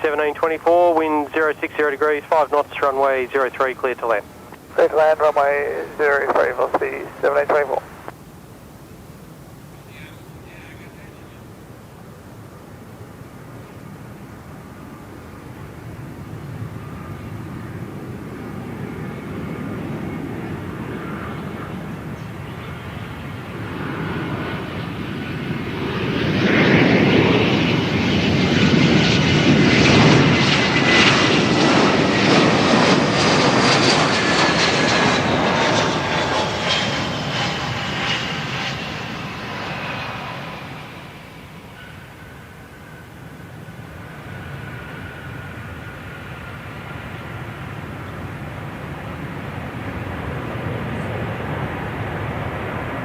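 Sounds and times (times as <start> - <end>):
jet airliner passing: 0.0 - 8.2, 12.3 - 53.0.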